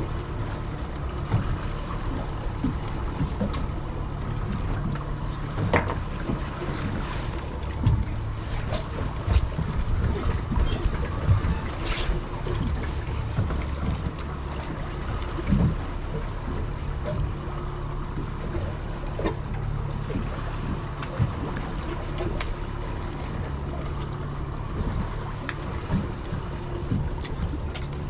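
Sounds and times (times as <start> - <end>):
boat engines droning: 0.0 - 28.0
water noise: 0.0 - 28.0
wind: 0.0 - 28.0.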